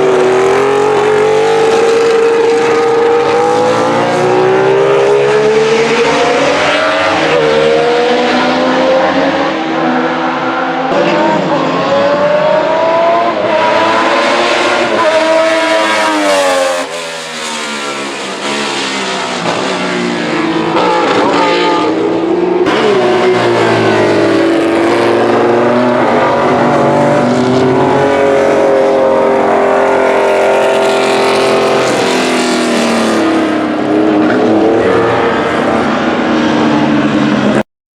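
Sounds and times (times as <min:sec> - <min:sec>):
racing engine revving through gears: 0:00.0 - 0:37.6.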